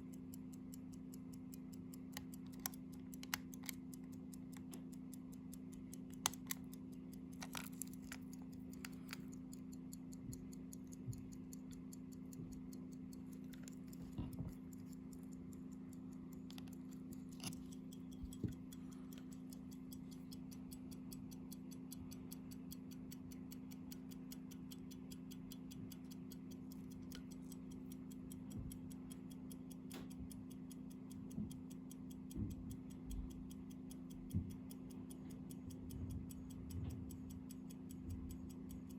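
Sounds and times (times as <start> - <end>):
pocket watch ticking: 0.0 - 38.9.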